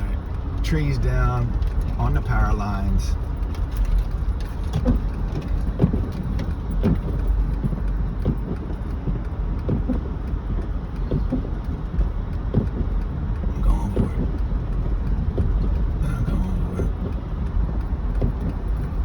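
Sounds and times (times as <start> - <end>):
tyres rumbling on slushy road: 0.0 - 19.0.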